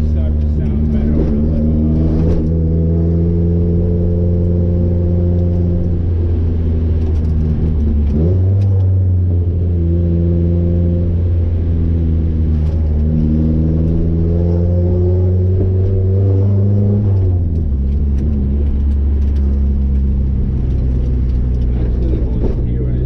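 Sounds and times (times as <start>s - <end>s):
car engine drone from inside cabin: 0.0s - 23.0s.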